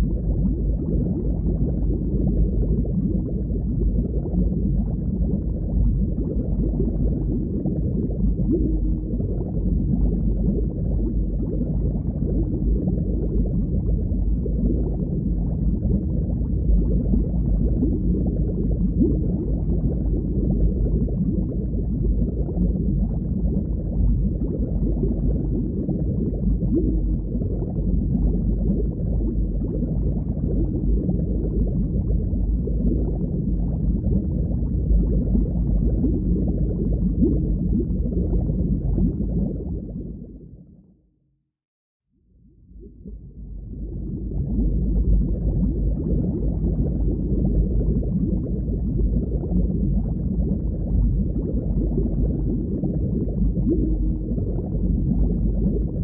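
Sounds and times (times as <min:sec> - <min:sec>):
muffled underwater water noise: 0:00.0 - 0:41.1, 0:42.2 - 0:56.0.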